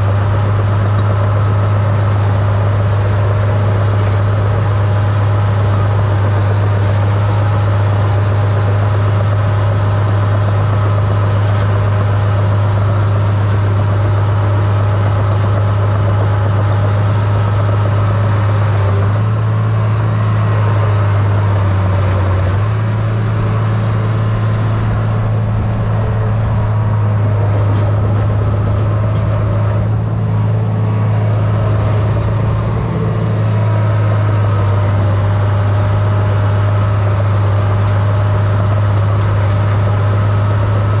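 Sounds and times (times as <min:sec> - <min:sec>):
diesel dozer engine running: 0:00.0 - 0:41.0.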